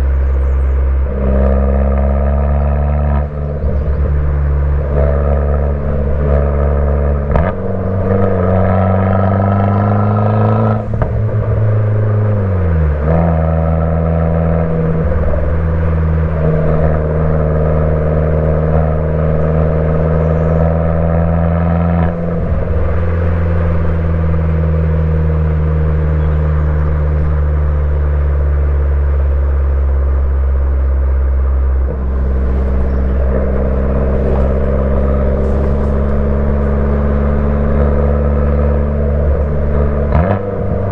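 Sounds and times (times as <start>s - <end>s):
car engine revving and cruising: 0.0s - 40.9s.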